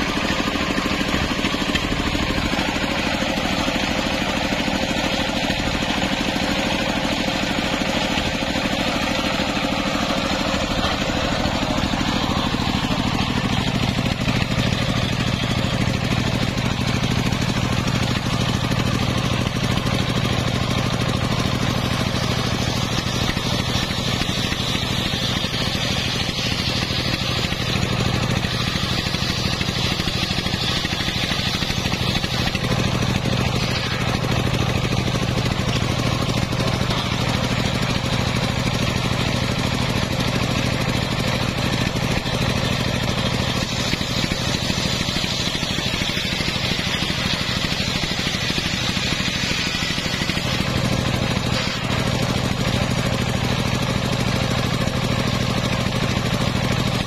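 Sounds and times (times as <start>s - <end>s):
circular saw bench running: 0.0s - 57.0s
saw blade hissing through log: 0.0s - 57.0s.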